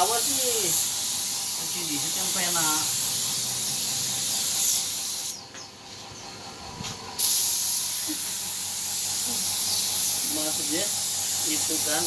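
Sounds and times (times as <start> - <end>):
spray gun hissing: 0.0 - 5.4, 7.2 - 12.0.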